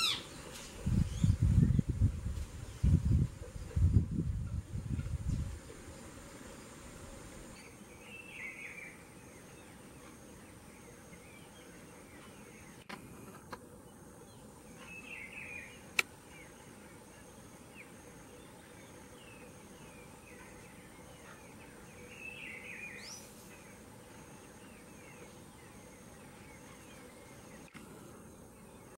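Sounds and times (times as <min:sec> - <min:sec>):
steady outdoor hiss: 0:00.0 - 0:28.9.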